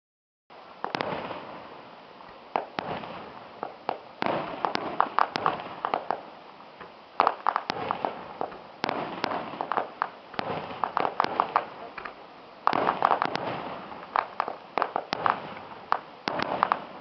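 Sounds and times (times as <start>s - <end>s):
fireworks bursting with cracks and pops: 0.8s - 17.0s
fireworks crackle: 0.8s - 17.0s.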